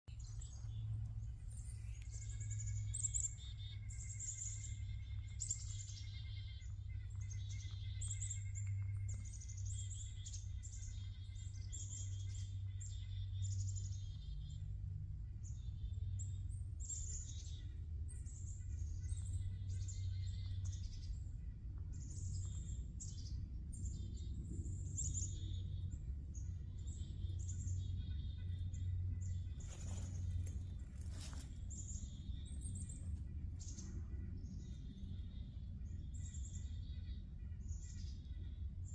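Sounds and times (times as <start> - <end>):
songbirds singing: 0.0 - 38.9
steady low rumble: 0.0 - 38.9.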